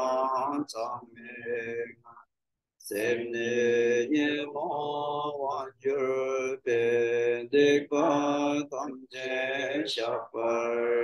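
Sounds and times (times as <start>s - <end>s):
person chanting: 0.0s - 11.0s.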